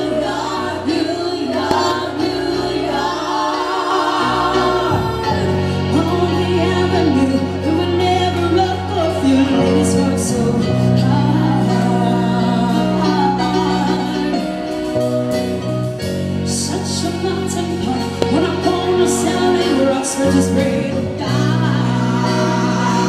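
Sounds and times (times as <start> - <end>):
woman singing into microphone: 0.0 - 14.9, 16.4 - 23.0
drums: 0.0 - 23.0
low keyboard chords: 0.0 - 23.0.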